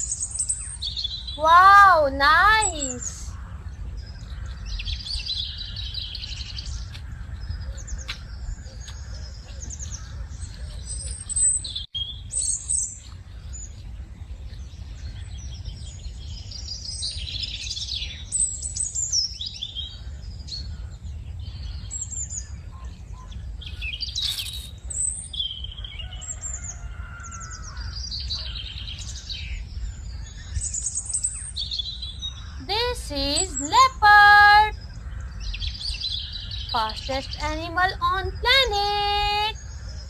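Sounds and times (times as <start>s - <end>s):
birds chirping and singing: 0.0s - 40.0s.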